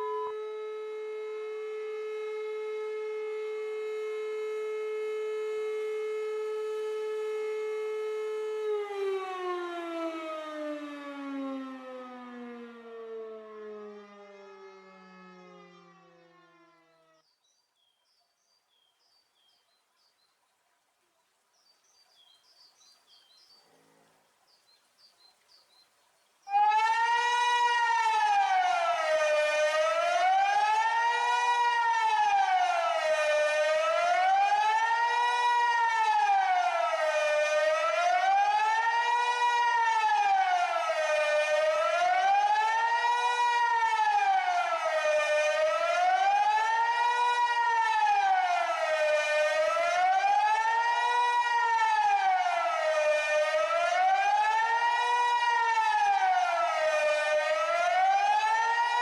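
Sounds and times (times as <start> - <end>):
wailing civil defence siren: 0.0 - 17.3, 26.4 - 59.0.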